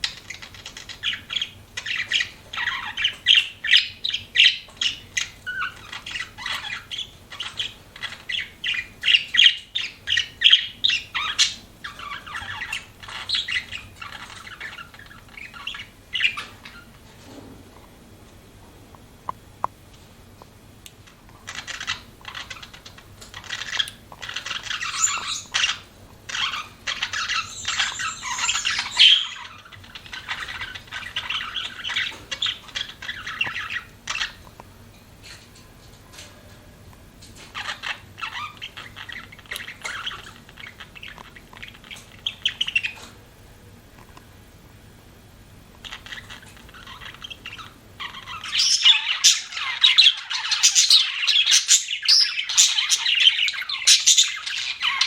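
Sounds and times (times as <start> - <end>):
budgerigars chattering: 0.0 - 16.9, 21.5 - 34.4, 37.6 - 43.1, 45.8 - 55.0.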